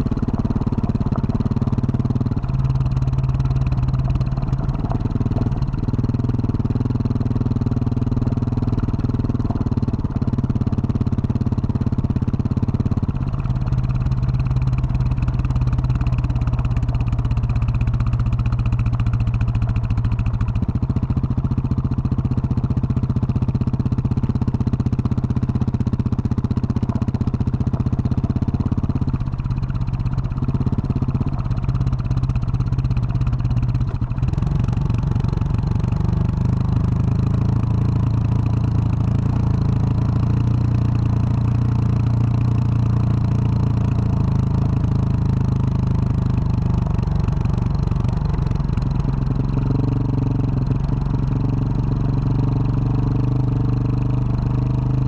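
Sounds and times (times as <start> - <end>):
motorcycle engine revving: 0.0 - 23.0, 24.8 - 55.0.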